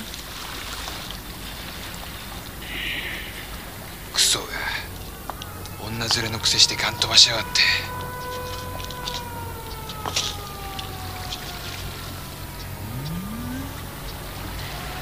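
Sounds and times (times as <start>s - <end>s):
low hum: 0.1s - 15.0s
siren-like wailing tone: 2.6s - 15.0s.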